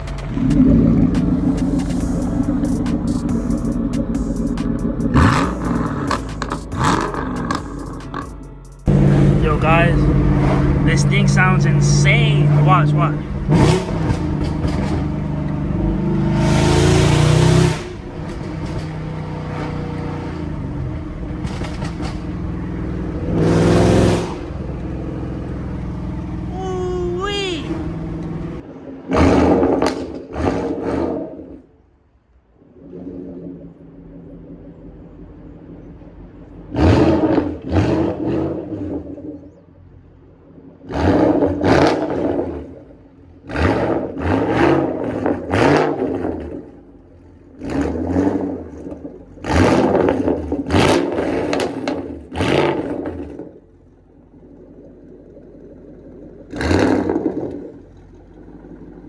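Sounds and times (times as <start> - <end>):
loud car engine revving: 0.0 - 26.6, 27.7 - 31.6, 32.6 - 39.5, 40.8 - 53.6, 56.5 - 59.0.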